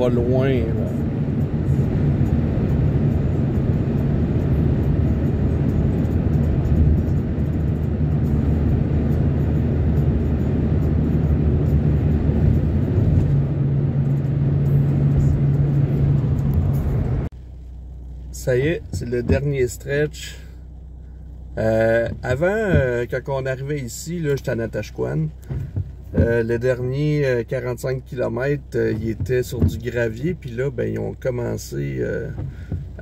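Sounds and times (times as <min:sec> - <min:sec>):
van engine and road noise: 0:00.0 - 0:33.0.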